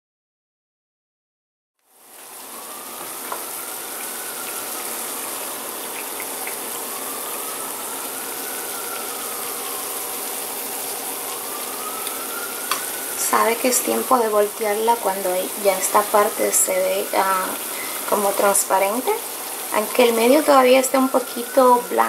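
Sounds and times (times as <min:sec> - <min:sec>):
hot oil sizzling in a skillet: 0:01.8 - 0:22.0.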